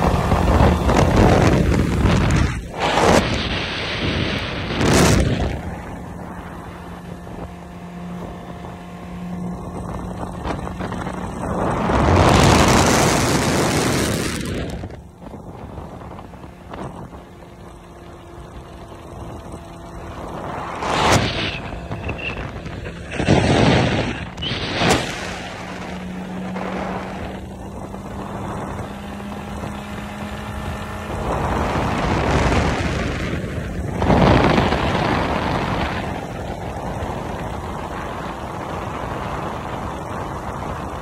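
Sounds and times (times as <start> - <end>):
motorcycle engine humming: 0.0 - 41.0
wind buffeting microphone: 0.0 - 41.0.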